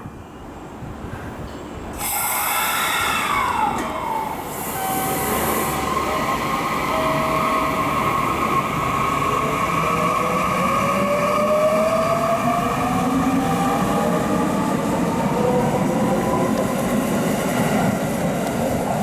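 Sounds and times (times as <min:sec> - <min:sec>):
rail noise: 0:00.0 - 0:19.0.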